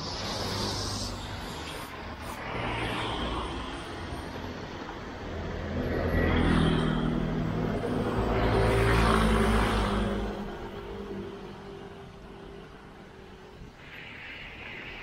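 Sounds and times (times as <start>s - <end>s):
tyre hiss of passing cars: 0.0s - 15.0s.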